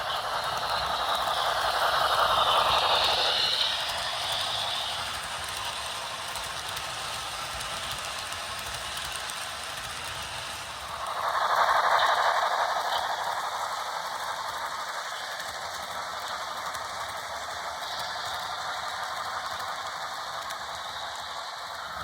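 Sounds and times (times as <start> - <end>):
model train clattering: 0.0 - 22.0.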